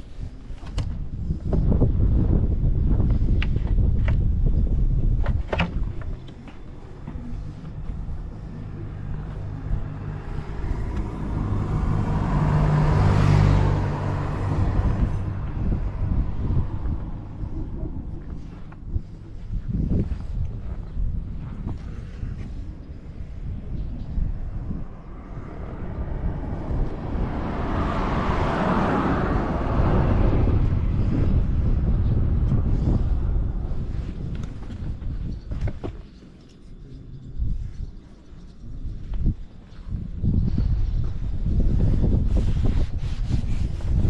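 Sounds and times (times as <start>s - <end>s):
motorcycle engine rumble: 0.0s - 42.8s.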